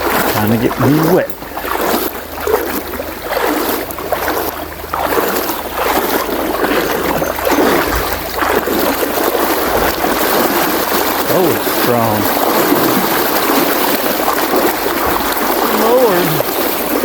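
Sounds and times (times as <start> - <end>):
river water rushing and splashing: 0.0 - 17.0.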